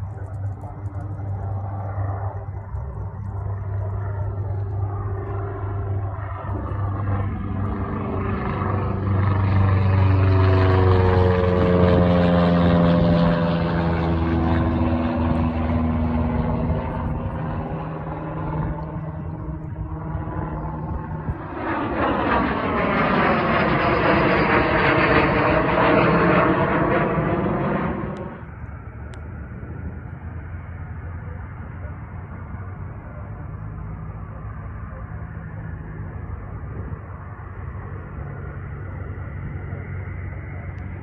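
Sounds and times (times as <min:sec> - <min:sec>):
propeller airplane flying past: 0:00.0 - 0:41.0
second aircraft: 0:00.0 - 0:41.0.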